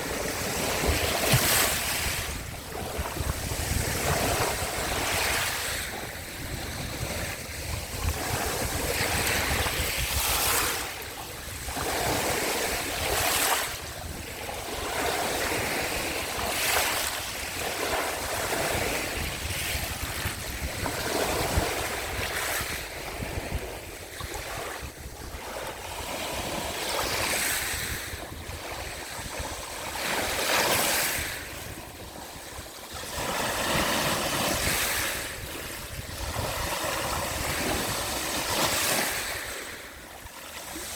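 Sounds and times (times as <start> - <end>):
sea waves breaking on shore: 0.0 - 40.9
wind rumbling on microphone: 0.0 - 40.9.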